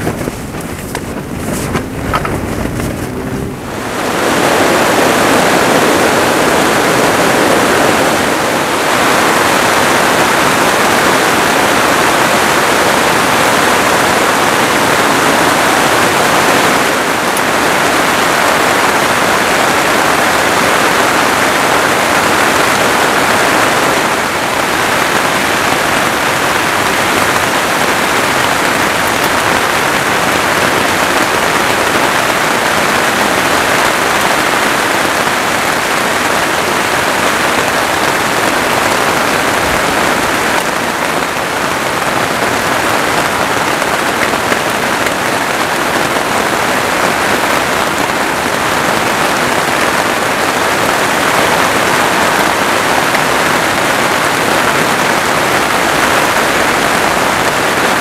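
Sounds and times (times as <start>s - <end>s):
heavy rain on tent fabric: 0.0s - 58.0s.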